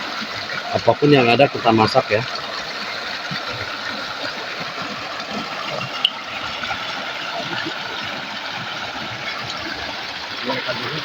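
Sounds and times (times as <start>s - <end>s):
river water flowing over rocks: 0.0s - 11.0s.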